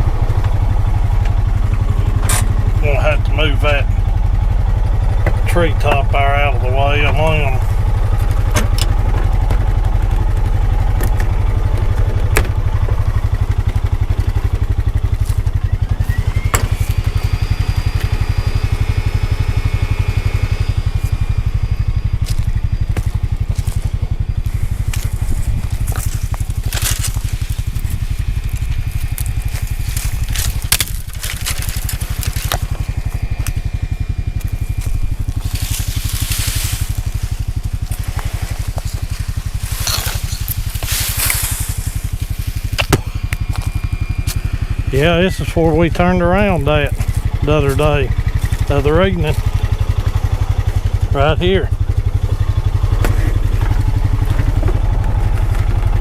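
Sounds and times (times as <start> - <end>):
brush crunching under tyres: 0.0 - 56.0
vehicle engine running: 0.0 - 56.0.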